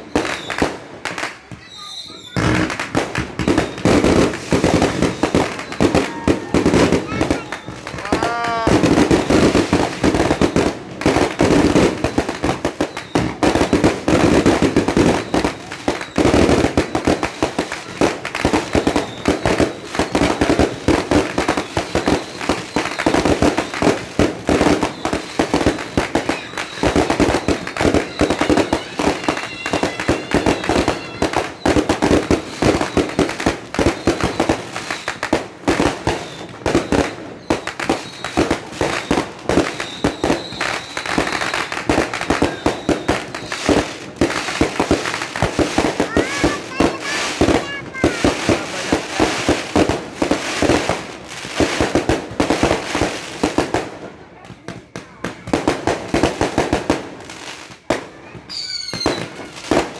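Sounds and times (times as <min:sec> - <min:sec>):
fireworks popping and banging: 0:00.0 - 0:59.9.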